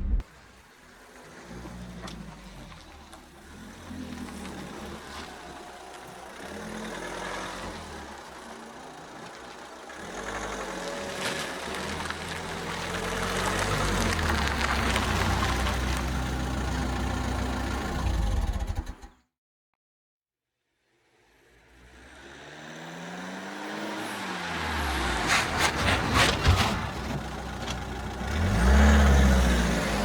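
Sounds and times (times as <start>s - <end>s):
car engine revving: 0.0s - 19.1s, 21.4s - 30.0s
exhaust cracks: 0.0s - 19.1s, 24.0s - 30.0s.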